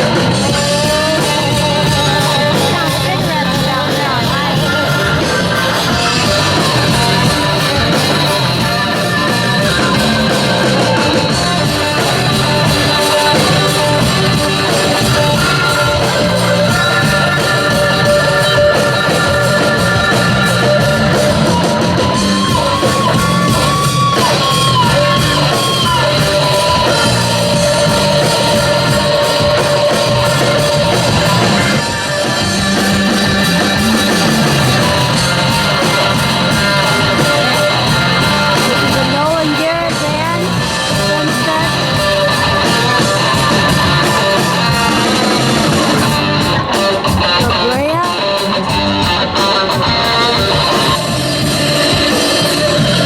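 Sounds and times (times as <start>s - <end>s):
bending lead guitar line: 0.0s - 53.0s
live rock band playing: 0.0s - 53.0s
person singing: 0.0s - 53.0s.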